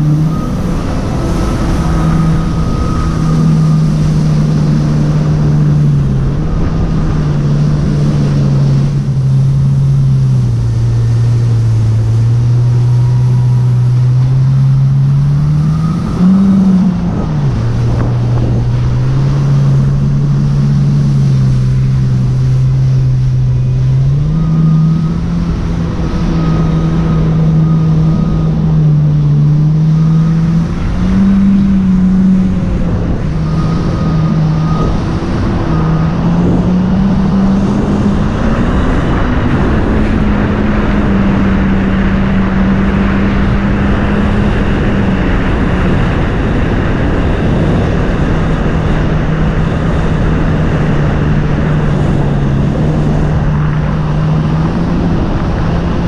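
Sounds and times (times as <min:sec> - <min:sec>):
jet ski engine: 0:00.0 - 0:56.0
water and wind rushing: 0:00.0 - 0:56.0.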